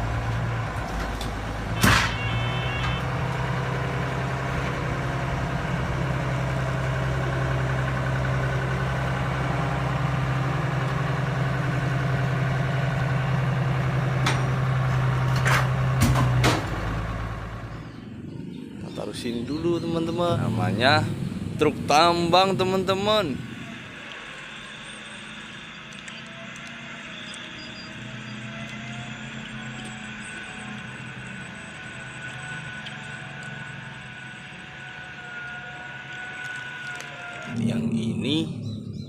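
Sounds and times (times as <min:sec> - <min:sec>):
motor humming: 0:00.0 - 0:18.8, 0:20.0 - 0:39.0.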